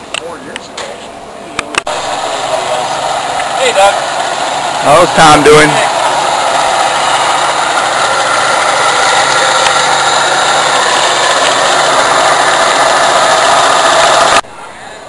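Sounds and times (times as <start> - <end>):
engine running loudly: 1.9 - 14.4.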